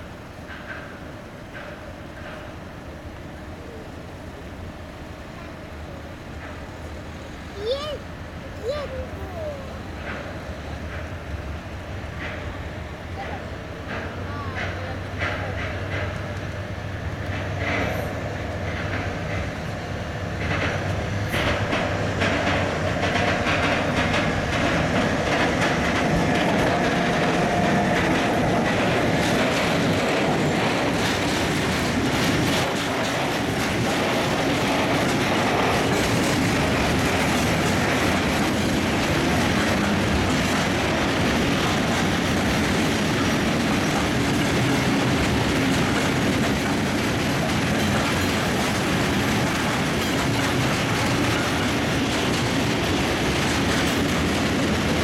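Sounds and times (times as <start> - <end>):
wheels clattering over rail joints: 0.0 - 3.7, 4.9 - 55.0
freight train rolling past: 0.0 - 55.0
locomotive steady tones: 0.0 - 55.0.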